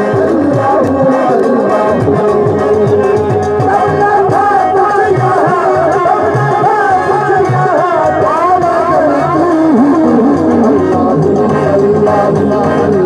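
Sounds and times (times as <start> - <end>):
hand drums beating: 0.0 - 13.0
person singing wavering melody: 0.0 - 13.0.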